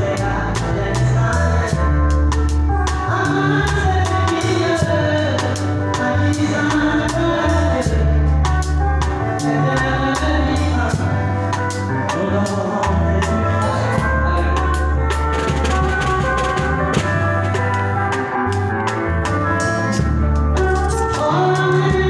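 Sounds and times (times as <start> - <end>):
drum kit playing busy beat: 0.0 - 22.0
electric bass notes: 0.0 - 22.0
guitar: 0.0 - 22.0.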